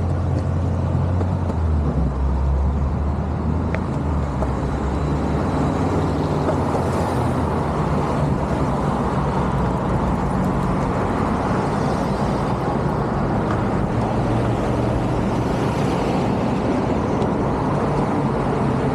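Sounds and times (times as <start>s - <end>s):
longboard wheels rolling on pavement: 0.0s - 18.9s.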